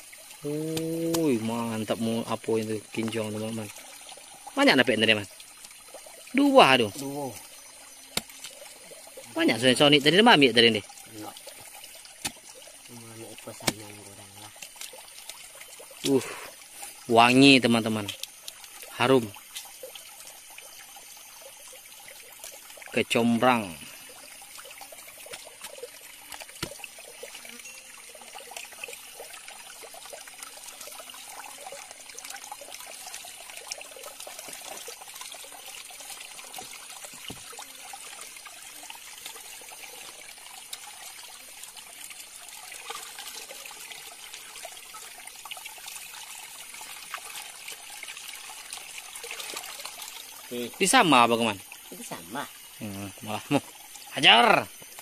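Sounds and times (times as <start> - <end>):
river water trickling and splashing: 0.0 - 55.0.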